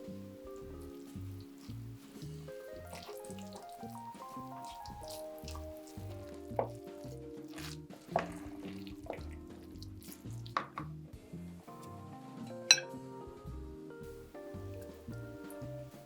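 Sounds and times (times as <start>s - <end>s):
background music with bass line: 0.0s - 16.0s.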